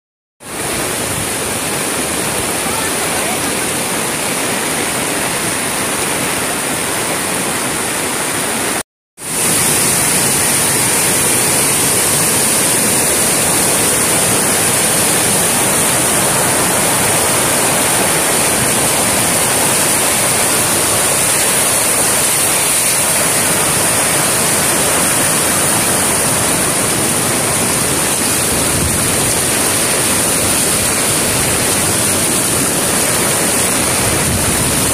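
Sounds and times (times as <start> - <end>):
rushing floodwater: 0.4 - 34.9.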